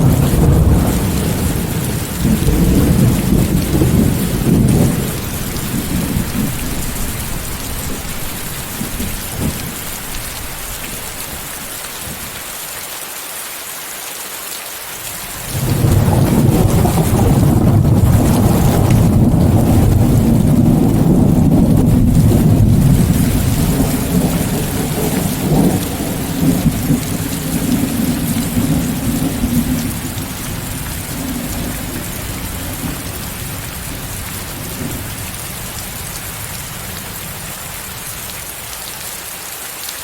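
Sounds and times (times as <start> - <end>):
rolling thunder: 0.0 - 12.4, 15.2 - 38.3
steady rain: 0.0 - 40.0.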